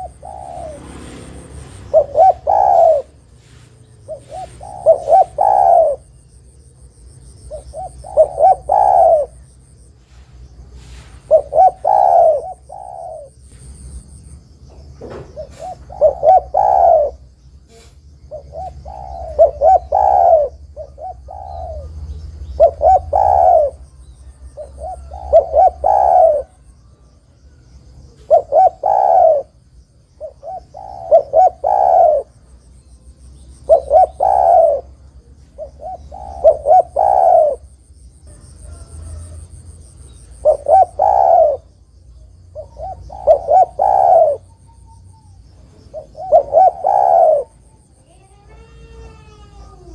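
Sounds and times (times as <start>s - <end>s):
dove cooing: 0.0s - 6.4s, 7.4s - 13.9s, 15.0s - 27.2s, 27.8s - 29.6s, 30.2s - 32.6s, 33.6s - 49.9s.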